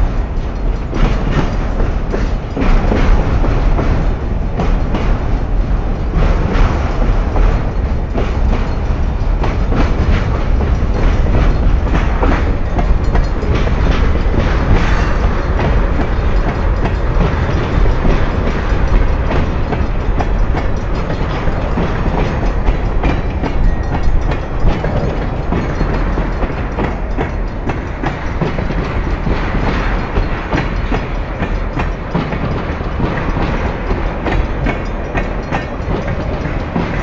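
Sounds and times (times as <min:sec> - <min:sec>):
train wheels rumbling on rails: 0:00.0 - 0:37.0
wheels clacking over rail joints: 0:00.0 - 0:37.0.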